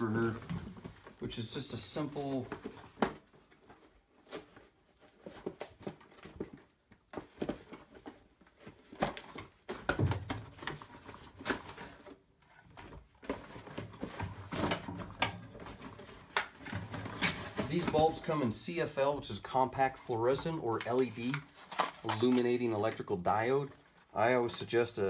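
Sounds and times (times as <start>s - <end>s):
cardboard rustling: 0.0s - 24.8s.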